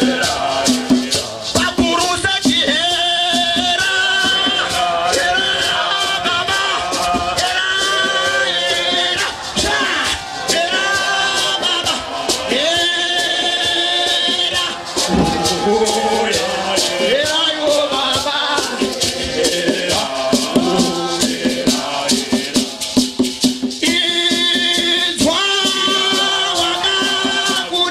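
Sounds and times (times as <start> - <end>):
hand drum beat: 0.0 - 27.9
hand shakers: 0.0 - 27.9
men's choir singing in harmony: 0.0 - 27.9.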